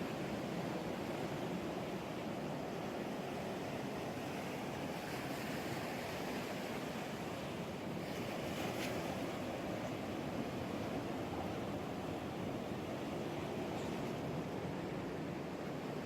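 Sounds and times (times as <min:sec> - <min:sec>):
ocean surf washing ashore: 0:00.0 - 0:16.0.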